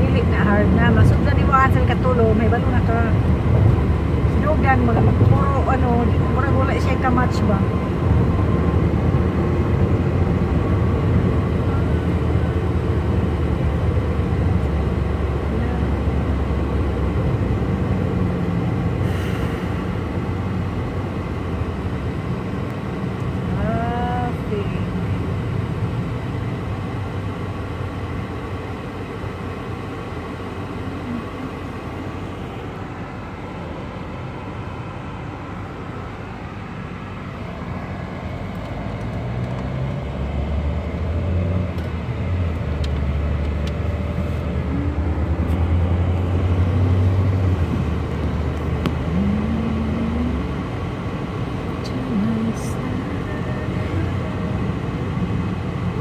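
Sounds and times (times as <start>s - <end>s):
road and engine noise in car: 0.0s - 56.0s.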